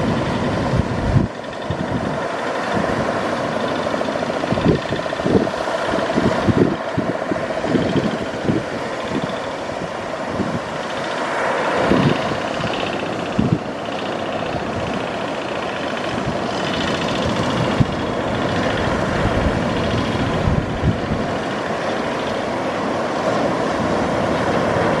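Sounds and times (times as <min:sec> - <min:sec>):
surf on sandy beach: 0:00.0 - 0:25.0
wind buffeting microphone: 0:00.0 - 0:25.0.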